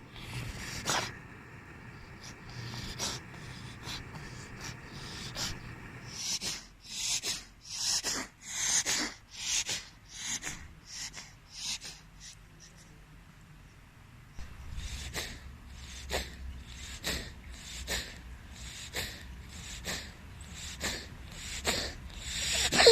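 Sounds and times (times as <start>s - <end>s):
pet snorting breaths: 0.0s - 12.4s, 14.4s - 22.9s.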